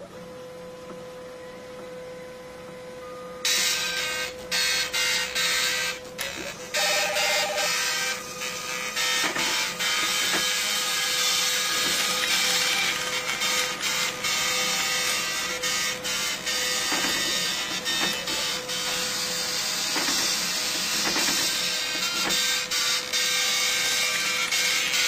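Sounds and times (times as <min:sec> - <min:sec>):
loud even mechanical noise: 0:00.0 - 0:25.0
printing machine humming: 0:03.4 - 0:25.0.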